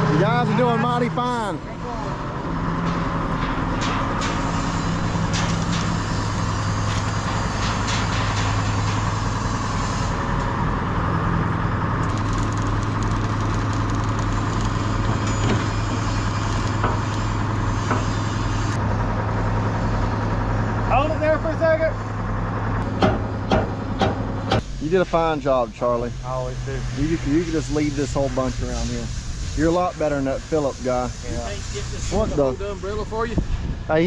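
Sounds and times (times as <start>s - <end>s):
forklift engine running: 0.0s - 34.0s.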